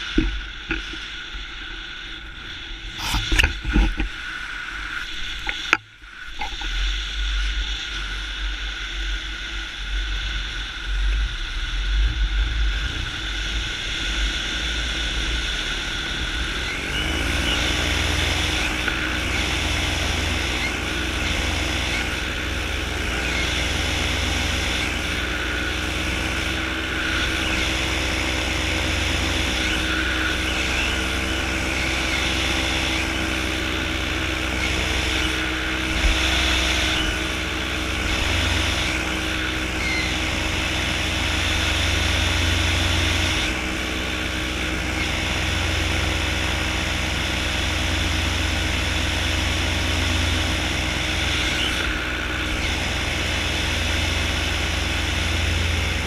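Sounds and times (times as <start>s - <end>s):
paramotor engine drone: 0.0s - 56.0s
wind rush on microphone: 0.0s - 56.0s.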